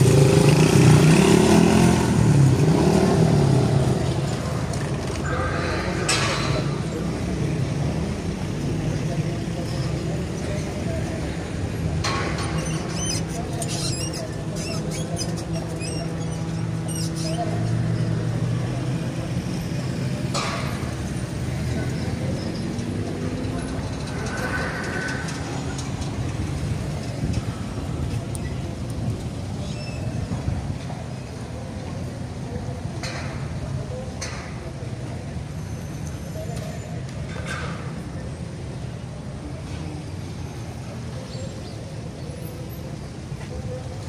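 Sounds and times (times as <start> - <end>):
faint distant voices: 0.0 - 44.0
low street rumble: 0.0 - 44.0.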